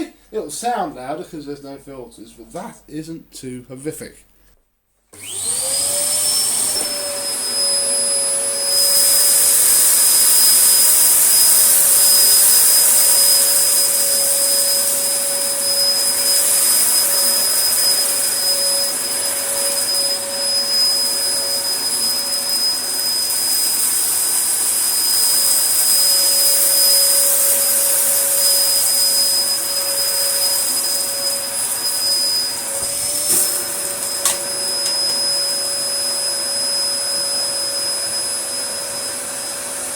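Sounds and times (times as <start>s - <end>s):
vacuum cleaner motor whining: 5.1s - 39.9s.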